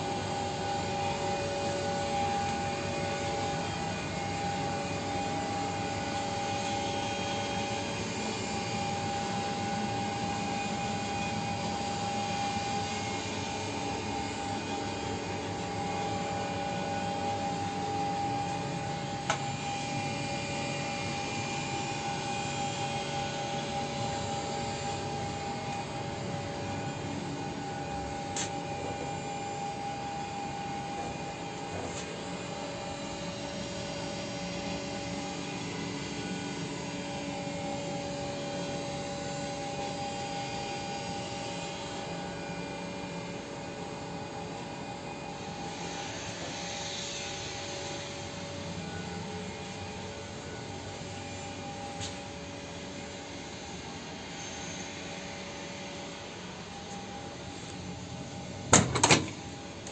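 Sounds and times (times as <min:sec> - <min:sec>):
cooling blowers whirring: 0:00.0 - 0:59.9
steady whine: 0:00.0 - 0:59.9.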